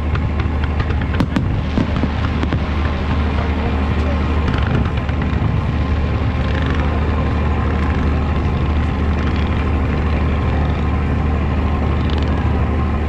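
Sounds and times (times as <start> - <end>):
fountain fireworks roaring: 0.0 - 13.0.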